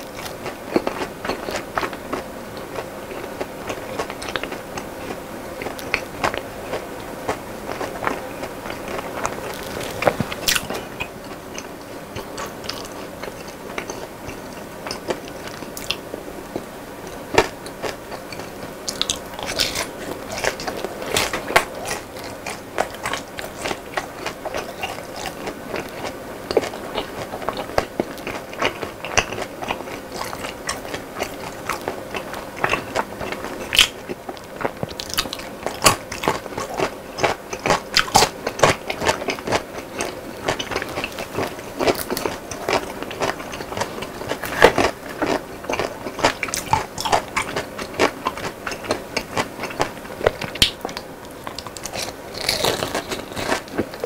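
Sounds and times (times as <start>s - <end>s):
chewing crunchy food: 0.0s - 54.0s.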